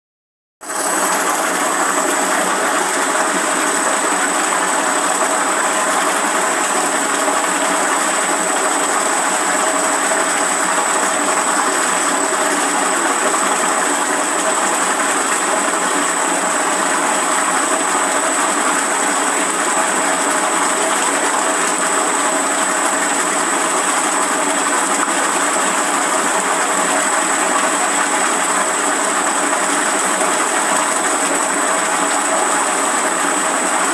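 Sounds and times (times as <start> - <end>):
mixing tank machine drone: 0.6 - 33.9.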